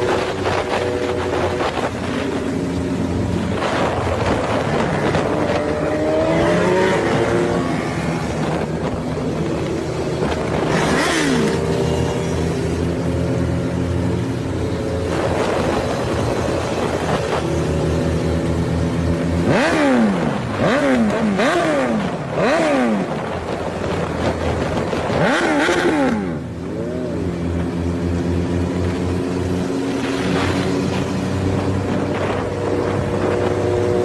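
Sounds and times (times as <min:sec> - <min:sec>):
engine idling and revving: 0:00.0 - 0:34.0.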